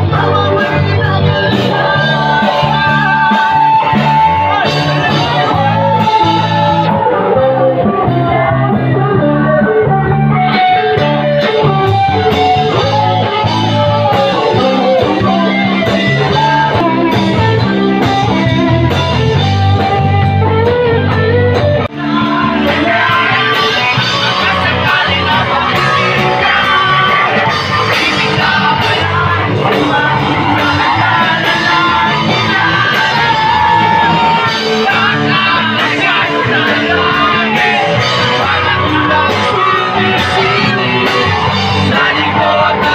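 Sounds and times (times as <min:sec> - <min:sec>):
man singing into a microphone: 0:00.0 - 0:18.6, 0:21.8 - 0:42.9
guitar: 0:00.0 - 0:42.9
live band music: 0:00.0 - 0:42.9.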